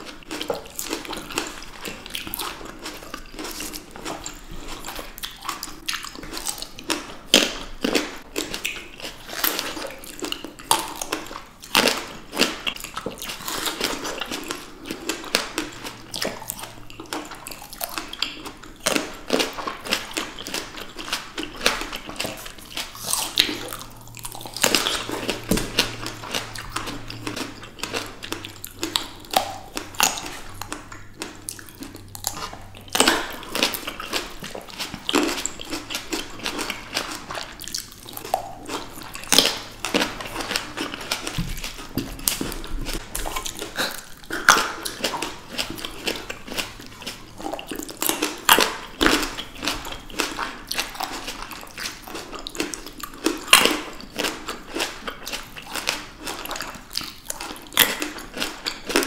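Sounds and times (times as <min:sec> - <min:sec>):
chewing grapes: 0:00.0 - 0:59.0.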